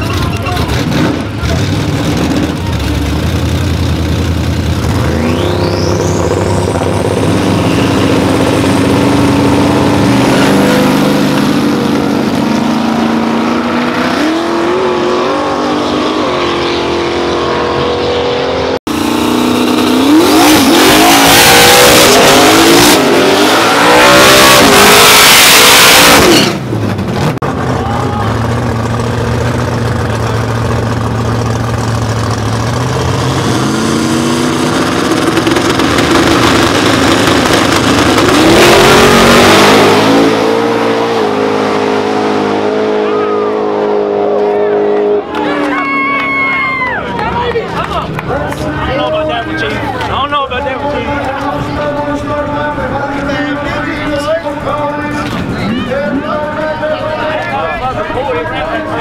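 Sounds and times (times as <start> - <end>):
race car engines idling and revving: 0.0 - 59.0.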